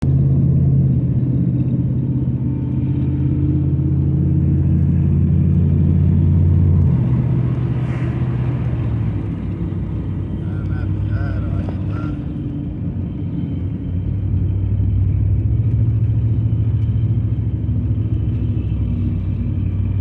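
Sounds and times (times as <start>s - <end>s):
pickup truck engine running: 0.0s - 20.0s.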